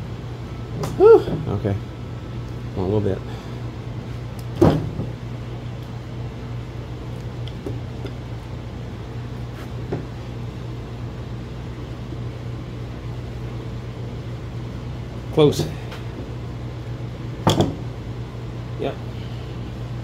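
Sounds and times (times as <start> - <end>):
machine or fan humming: 0.0 - 20.0.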